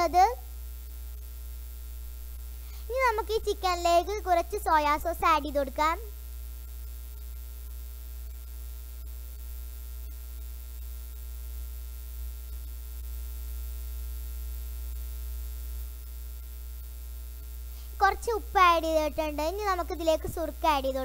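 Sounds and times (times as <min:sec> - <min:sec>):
low electrical hum with hiss: 0:00.0 - 0:21.0.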